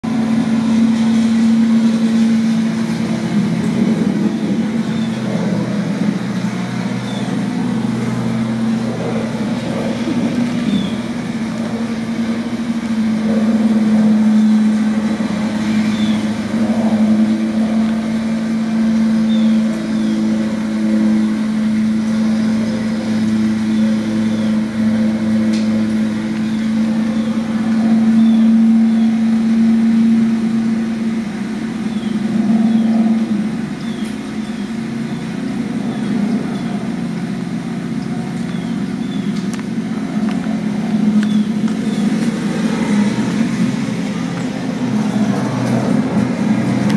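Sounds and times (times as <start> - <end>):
steady low hum: 0.0 - 46.9
traffic noise: 0.0 - 46.9.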